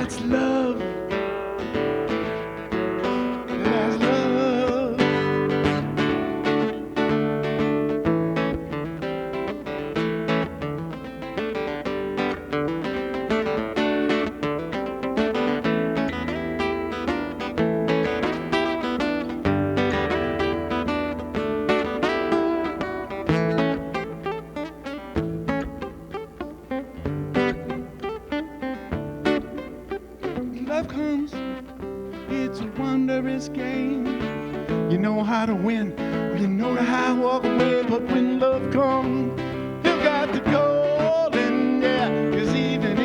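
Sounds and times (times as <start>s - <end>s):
acoustic guitar picking: 0.0s - 43.0s.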